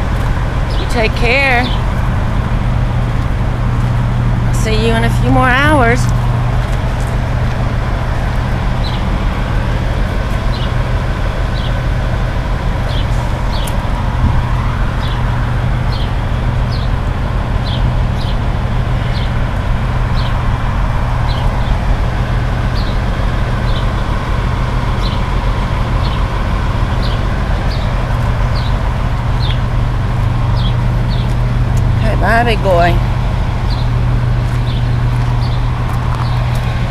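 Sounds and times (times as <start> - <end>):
idling engines and traffic hum: 0.0 - 36.9.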